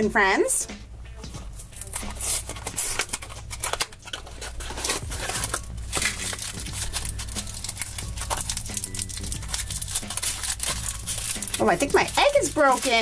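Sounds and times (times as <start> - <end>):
cardboard and foil crinkling: 1.6 - 13.0.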